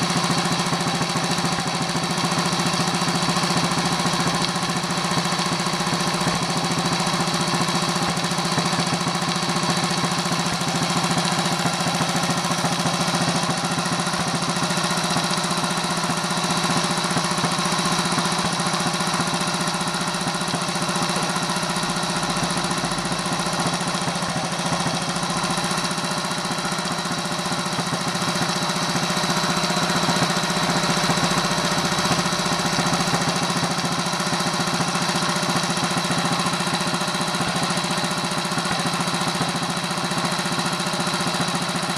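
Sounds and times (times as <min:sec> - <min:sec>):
small engine running steadily: 0:00.0 - 0:41.9.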